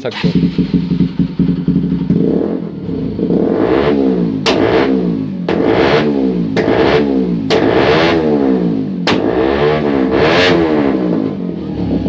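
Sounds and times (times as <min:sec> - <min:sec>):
loud motorcycle engine revving: 0:00.0 - 0:12.0.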